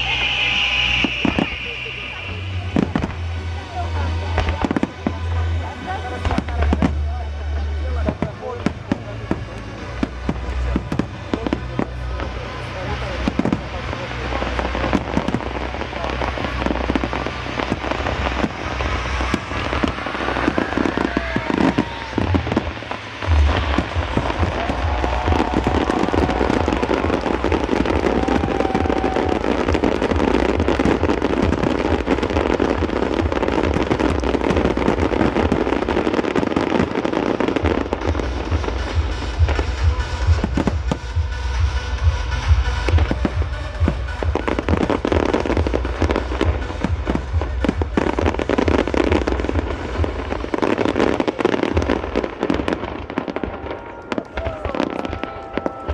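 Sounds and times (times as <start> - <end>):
fireworks bursts and bangs: 0.0 - 55.9
music: 0.0 - 55.9.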